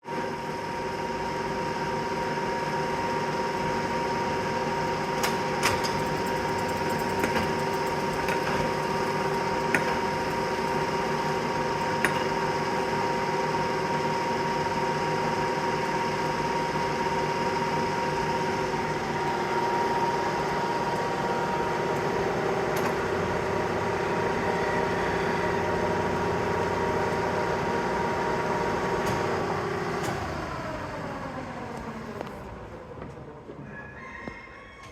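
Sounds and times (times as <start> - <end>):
milling machine whining: 0.2 - 33.0.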